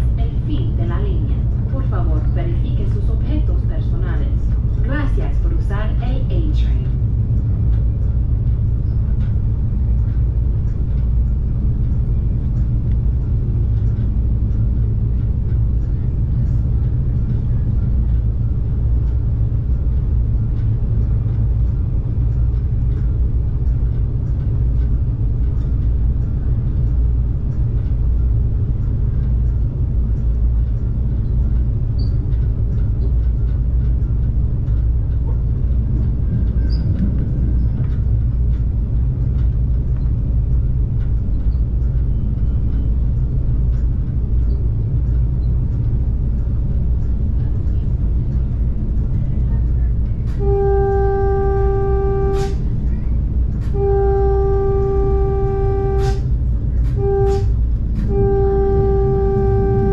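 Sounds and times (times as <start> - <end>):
train rumbling from inside: 0.0 - 59.9.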